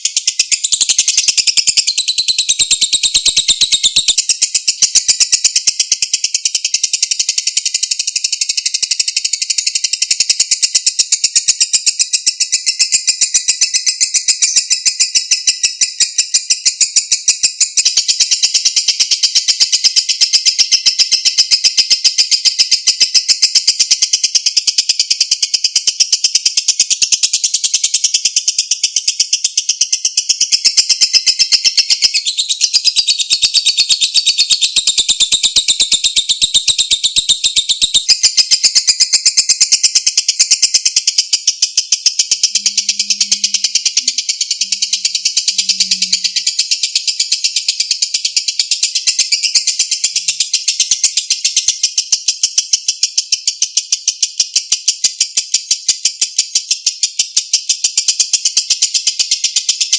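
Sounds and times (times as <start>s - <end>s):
lovebird chattering: 0.0s - 55.2s.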